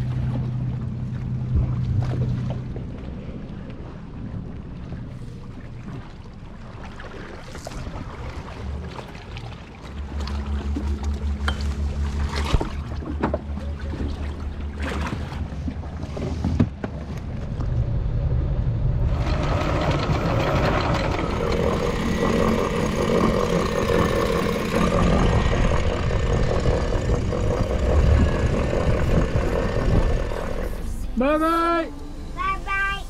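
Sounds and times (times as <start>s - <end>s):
rush of wind and water: 0.0s - 32.9s
boat engine humming: 0.0s - 33.0s.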